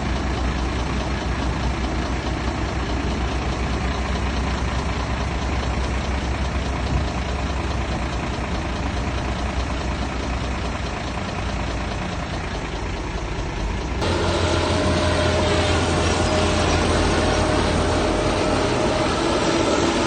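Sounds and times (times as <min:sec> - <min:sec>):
diesel engine running: 0:00.0 - 0:20.0
engine whine: 0:00.0 - 0:20.0.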